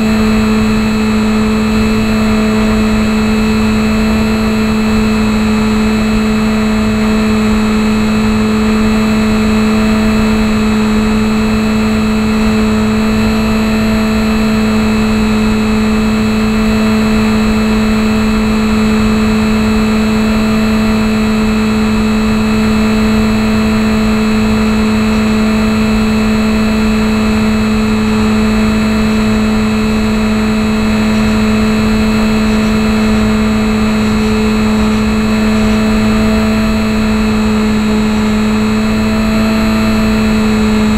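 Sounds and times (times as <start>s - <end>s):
model plane motor buzzing whine: 0.0s - 40.9s.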